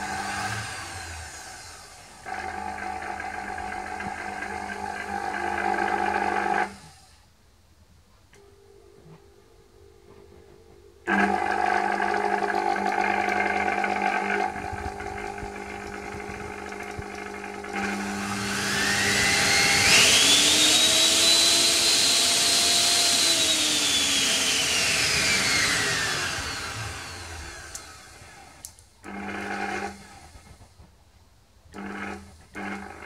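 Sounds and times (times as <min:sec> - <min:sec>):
small electric motor whining: 0:00.0 - 0:07.3, 0:11.1 - 0:30.6.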